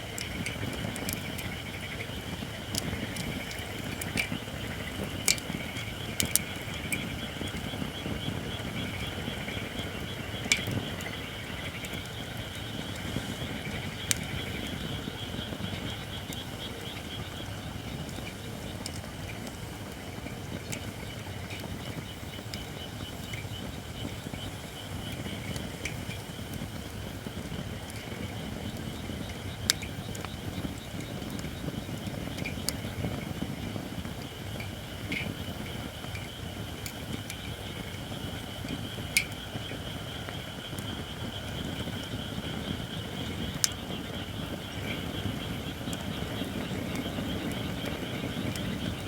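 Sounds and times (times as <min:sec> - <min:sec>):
campfire crackles and pops: 0:00.0 - 0:49.0.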